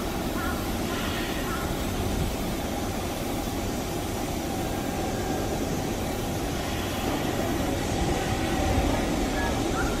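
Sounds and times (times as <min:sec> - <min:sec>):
electric train rumble and hum: 0:00.0 - 0:10.0.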